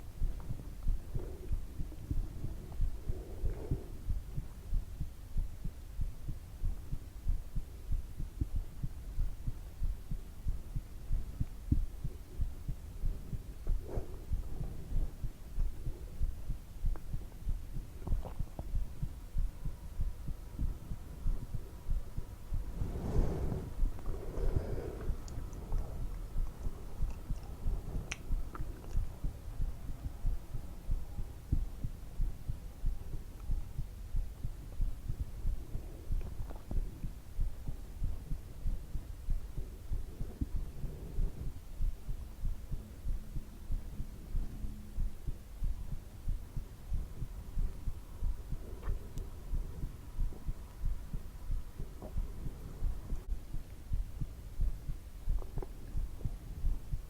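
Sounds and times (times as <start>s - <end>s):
faint hum: 0.0s - 57.0s
heartbeat thudding: 0.0s - 57.0s.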